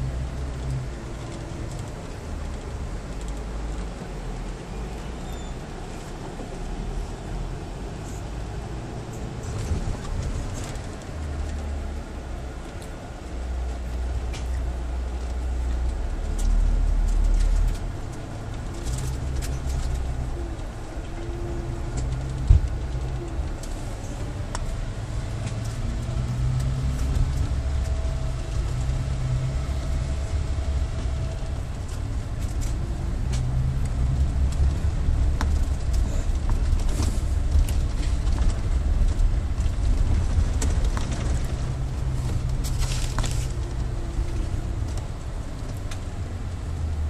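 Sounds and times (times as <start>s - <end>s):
diesel engine low drone: 0.0s - 47.0s
body rattles and clicks: 0.1s - 4.7s, 5.8s - 47.0s.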